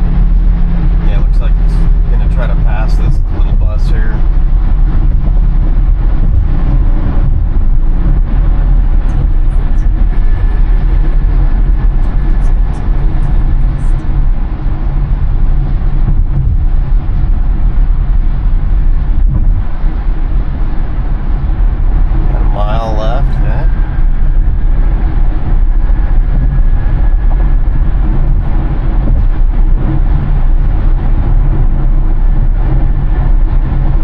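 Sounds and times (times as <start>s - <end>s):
road and wind noise in a car: 0.0s - 34.0s.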